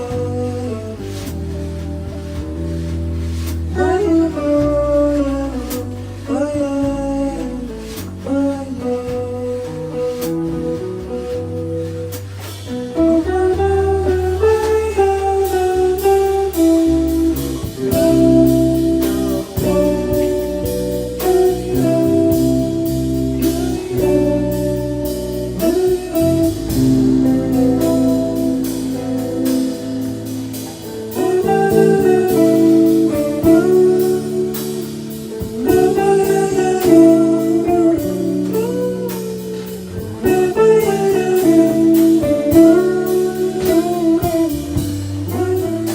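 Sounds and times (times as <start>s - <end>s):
jazz blues band playing: 0.0s - 45.9s
walking bass: 0.0s - 45.9s
lead guitar bent notes: 8.2s - 45.9s.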